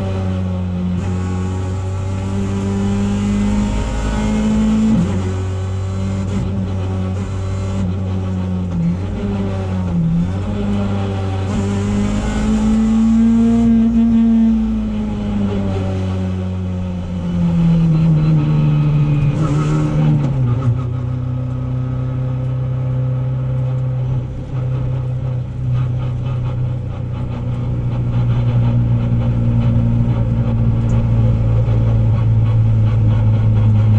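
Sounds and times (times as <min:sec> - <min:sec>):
car engine from inside cabin: 0:00.0 - 0:33.9.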